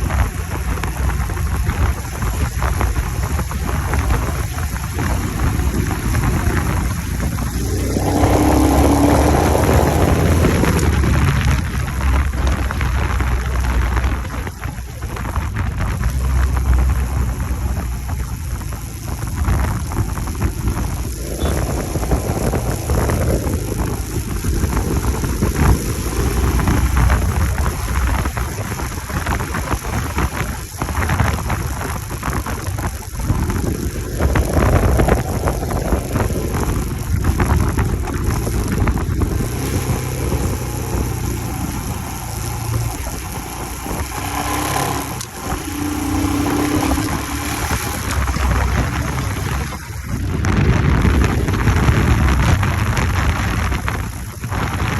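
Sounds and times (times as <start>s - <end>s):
motorcycle engine running: 0.0s - 54.9s
wind rushing over microphone: 0.0s - 54.9s.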